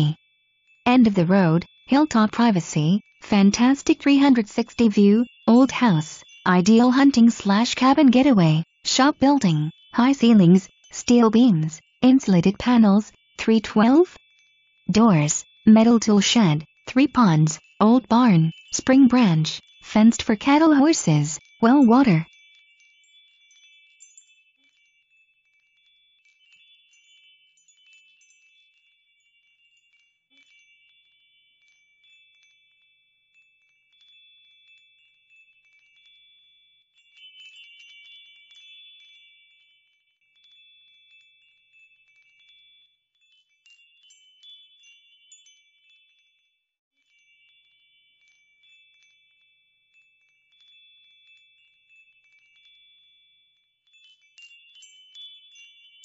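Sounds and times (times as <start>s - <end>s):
wind chimes ringing faintly: 0.0s - 3.2s, 5.1s - 12.0s, 12.6s - 19.9s, 21.4s - 56.0s.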